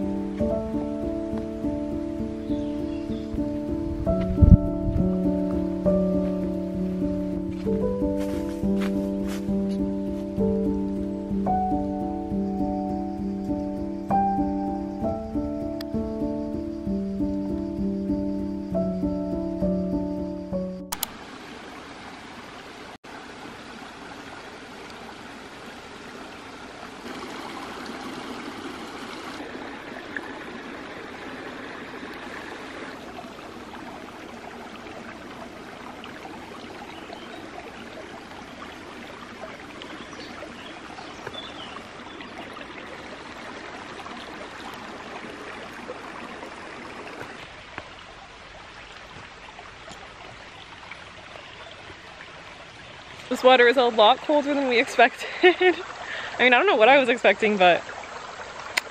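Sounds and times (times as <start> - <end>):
stream trickling: 0.0 - 58.9.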